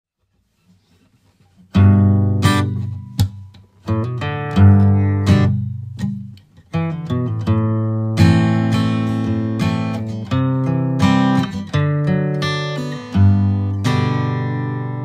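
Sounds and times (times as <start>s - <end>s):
acoustic guitar strumming: 1.7s - 15.0s.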